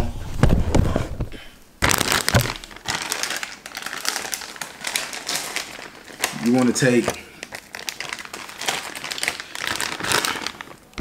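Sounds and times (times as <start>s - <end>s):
plastic bag crinkling: 1.8s - 11.0s.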